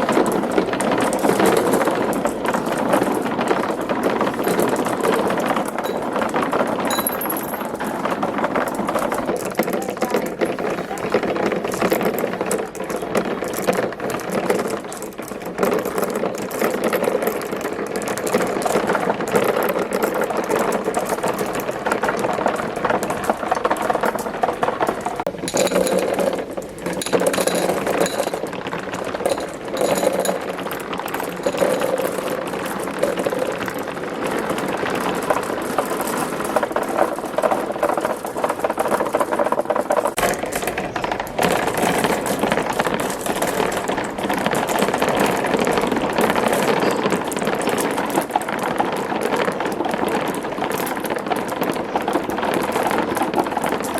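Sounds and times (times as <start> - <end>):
marbles rattling down tracks: 0.0 - 53.9.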